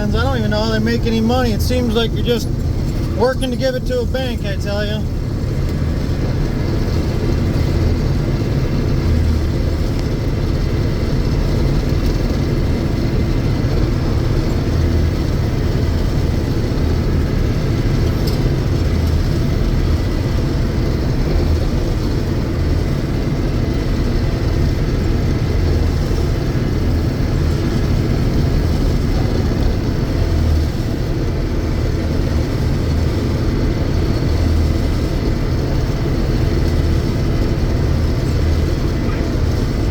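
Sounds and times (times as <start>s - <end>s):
combine diesel engine droning: 0.0s - 39.9s
threshing machinery rumbling: 0.0s - 39.9s.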